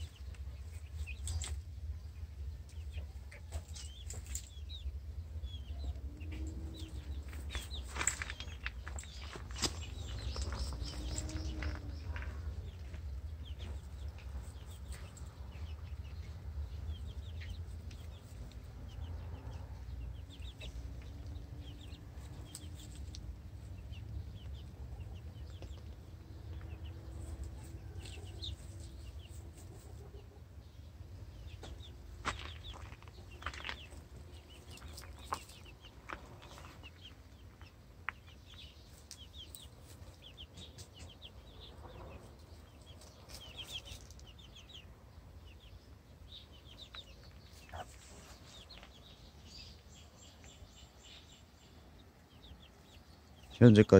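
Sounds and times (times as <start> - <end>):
chicks peeping and clucking: 0.0 - 53.9.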